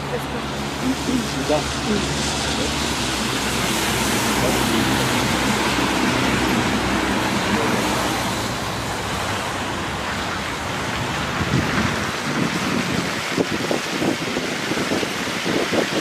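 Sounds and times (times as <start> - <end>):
vehicle engine humming: 0.0 - 15.0
rushing traffic haze: 0.0 - 16.0
wind buffeting microphone: 0.0 - 16.0.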